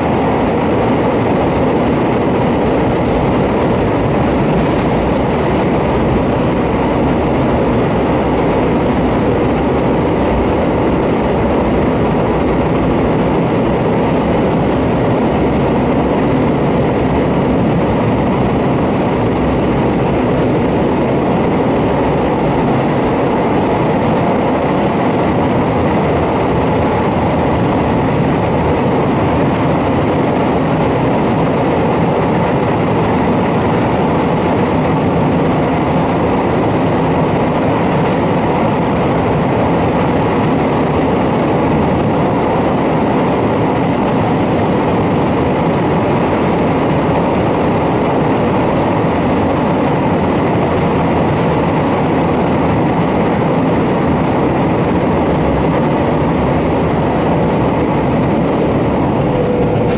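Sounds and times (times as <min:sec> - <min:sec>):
electric train running in tunnel: 0:00.0 - 0:59.9.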